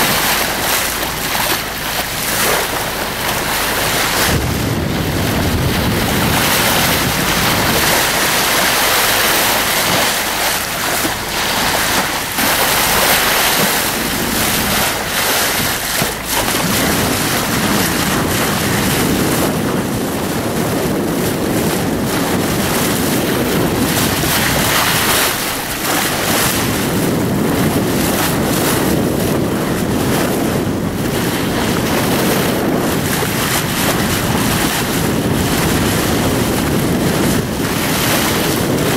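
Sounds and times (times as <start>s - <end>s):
sea water rushing along hull: 0.0s - 38.9s
wind buffeting microphone: 0.0s - 38.9s.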